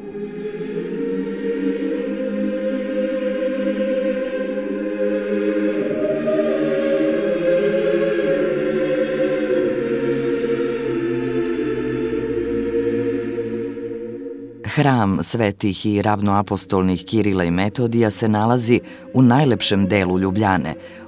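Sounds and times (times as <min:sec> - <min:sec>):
choir chanting held chords: 0:00.0 - 0:21.0.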